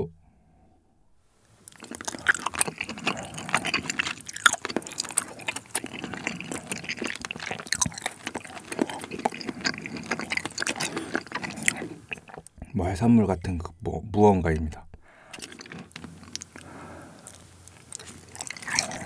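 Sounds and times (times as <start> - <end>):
wet chewing of seafood: 1.5 - 12.7, 15.0 - 19.0
mouth clicks and smacks: 1.6 - 12.8, 14.6 - 19.0.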